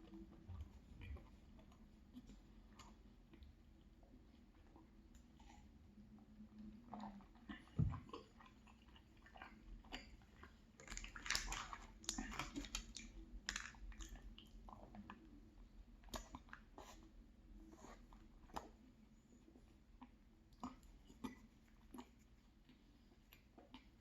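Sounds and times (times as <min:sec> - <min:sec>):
chewing with mouth clicks: 0:00.0 - 0:24.0.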